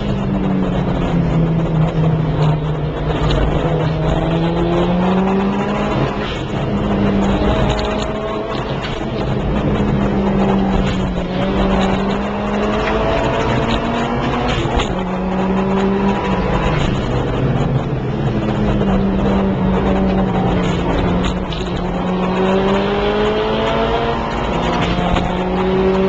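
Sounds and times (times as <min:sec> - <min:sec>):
car engine revving: 0:00.0 - 0:26.0
road and wind noise: 0:00.0 - 0:26.0.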